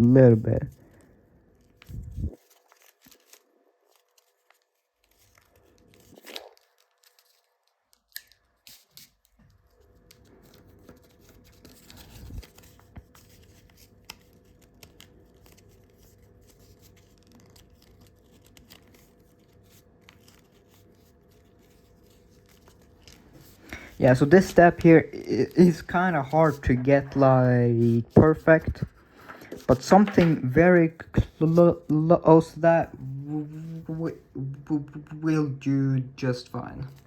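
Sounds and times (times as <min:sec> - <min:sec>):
paper rustling and crinkling: 0:00.0 - 0:34.2, 0:36.5 - 0:37.0.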